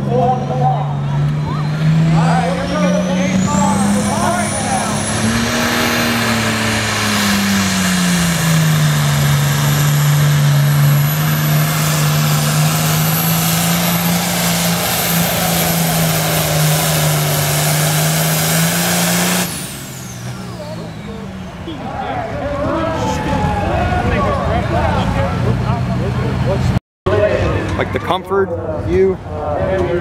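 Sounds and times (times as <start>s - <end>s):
tractor diesel engine at full throttle: 0.0s - 30.0s.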